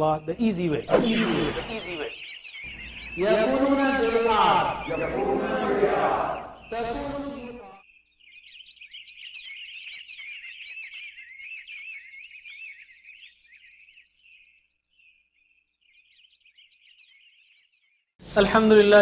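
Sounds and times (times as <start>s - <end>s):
high-pitched twittering chirps: 0.0s - 18.7s.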